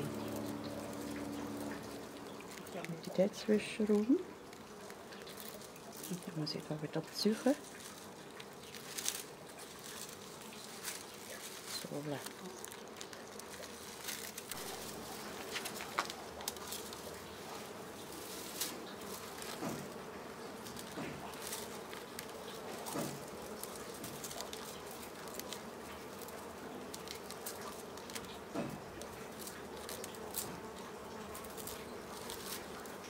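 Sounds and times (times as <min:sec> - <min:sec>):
dry grass stalks crackling: 0:00.0 - 0:33.0
insects buzzing: 0:00.0 - 0:33.0.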